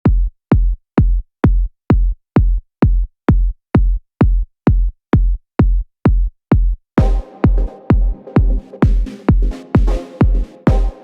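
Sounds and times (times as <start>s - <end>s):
electronic kick drum thumps: 0.0s - 11.0s.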